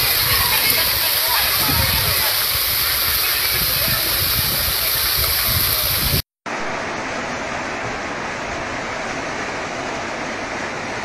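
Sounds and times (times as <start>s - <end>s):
floodwater rushing: 0.0s - 11.0s
heavy downpour: 0.0s - 11.0s
runoff pouring off a roof: 0.0s - 11.0s.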